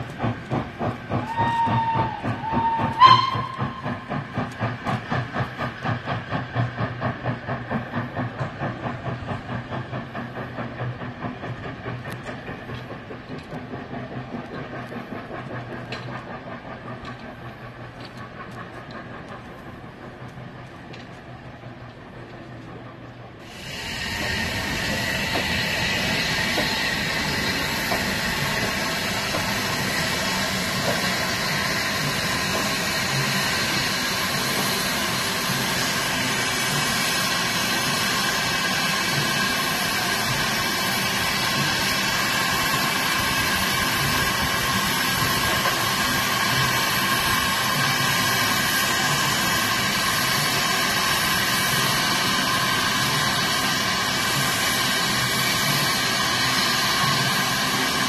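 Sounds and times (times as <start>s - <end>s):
steam locomotive venting steam: 0.0s - 58.0s.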